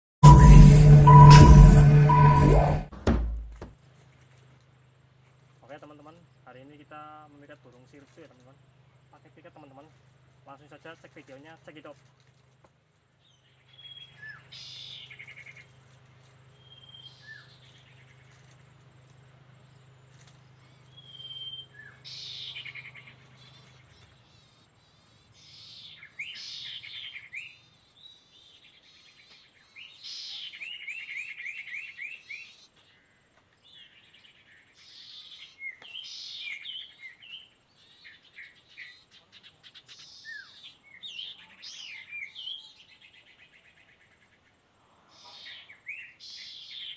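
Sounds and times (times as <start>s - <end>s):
songbird chirps and trills: 3.9s - 46.9s.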